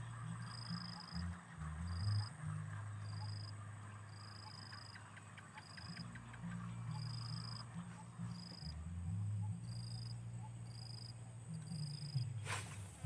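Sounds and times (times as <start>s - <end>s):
insects chirping: 0.0s - 13.0s
steady low hum: 0.0s - 13.0s.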